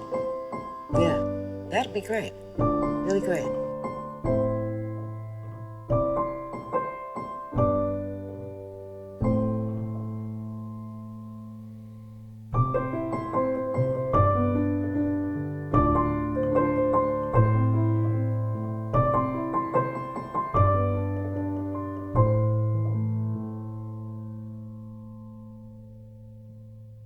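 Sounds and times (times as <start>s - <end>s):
slow piano chords: 0.0s - 27.0s.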